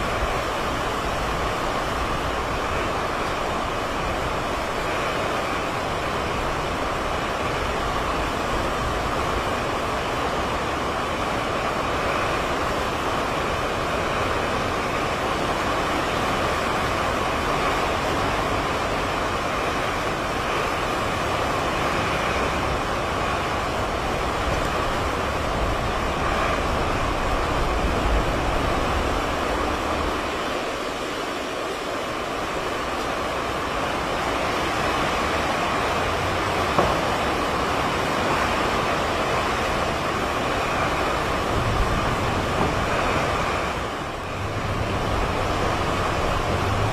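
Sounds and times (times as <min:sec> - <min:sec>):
rough choppy water: 0:00.0 - 0:46.9
strong wind rushing: 0:00.0 - 0:46.9
wind buffeting microphone: 0:00.0 - 0:46.9.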